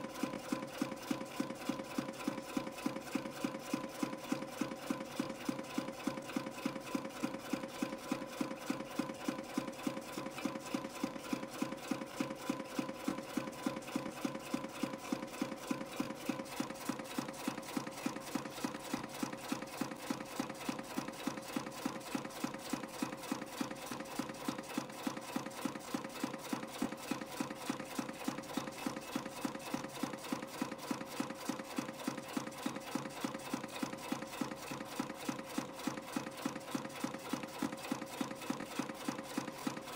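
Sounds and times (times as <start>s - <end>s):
fast even machine clicking: 0.1s - 39.9s.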